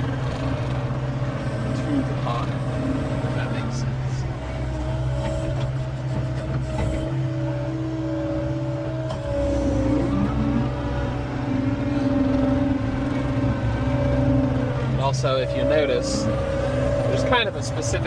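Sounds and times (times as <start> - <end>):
diesel engine and hydraulic whine: 0.0 - 18.0.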